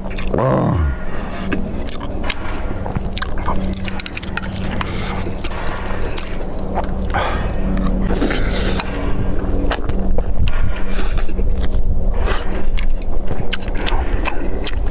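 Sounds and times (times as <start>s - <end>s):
wet chewing and slurping: 0.0s - 0.4s, 1.0s - 14.9s
steady low hum: 0.0s - 14.9s
mouth clicks and smacks: 1.4s - 14.9s.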